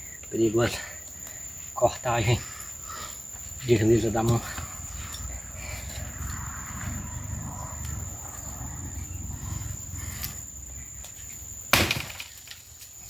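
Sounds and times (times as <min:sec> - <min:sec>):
insect buzzing: 0:01.0 - 0:13.0.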